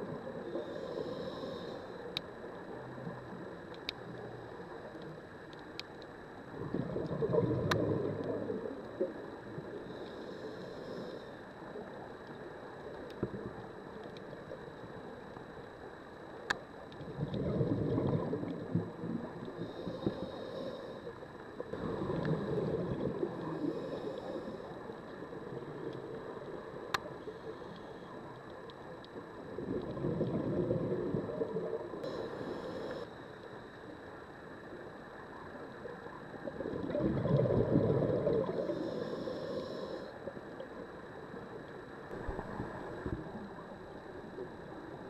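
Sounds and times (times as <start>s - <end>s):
underwater bubbles gurgling: 0.0s - 45.0s.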